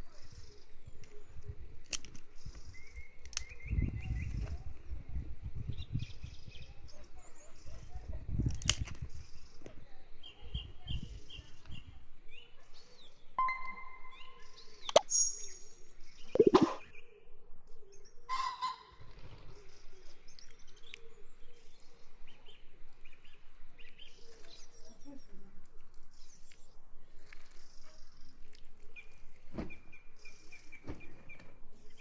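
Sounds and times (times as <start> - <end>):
small birds chirping: 0.0 - 16.8, 19.6 - 32.0.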